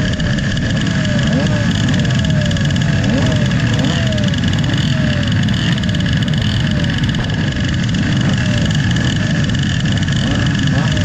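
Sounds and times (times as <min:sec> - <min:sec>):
small motorbike engines revving: 0:00.0 - 0:11.0.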